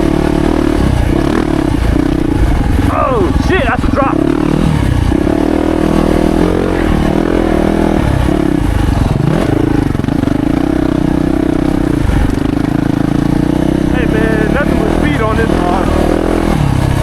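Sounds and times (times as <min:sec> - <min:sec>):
motorcycle engine revving hard: 0:00.0 - 0:17.0.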